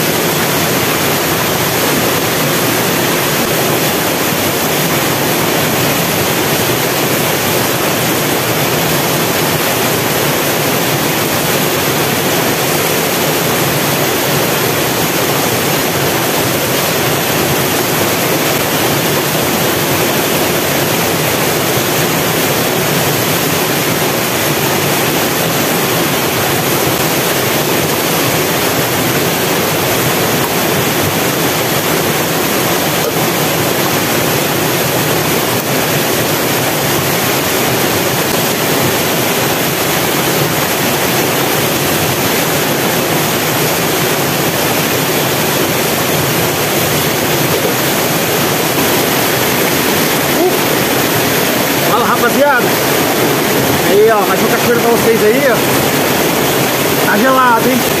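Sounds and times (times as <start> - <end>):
waterfall rushing over boulders: 0.0 - 58.0.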